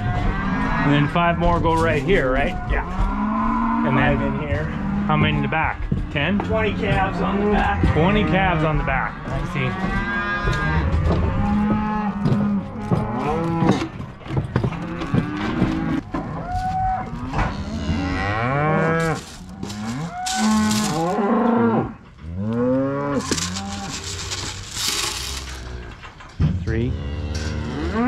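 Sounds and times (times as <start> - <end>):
cows and calves mooing: 0.0 - 28.0.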